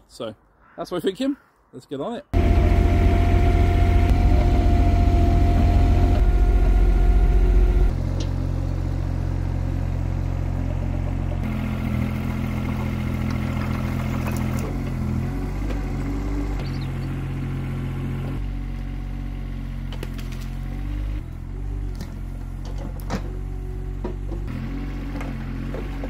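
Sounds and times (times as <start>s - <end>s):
digger engine running: 2.4s - 26.0s.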